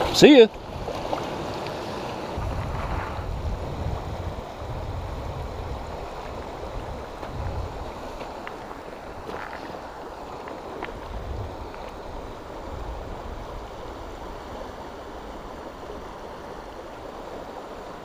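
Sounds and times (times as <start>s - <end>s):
flowing creek water: 0.0s - 18.0s.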